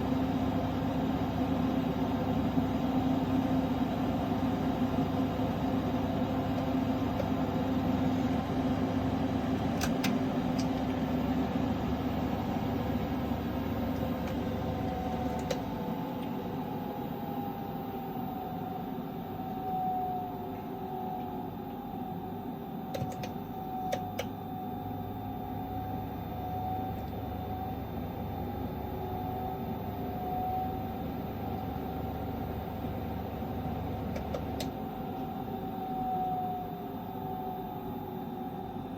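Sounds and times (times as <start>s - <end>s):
inverter hum with wavering whine: 0.0s - 38.9s.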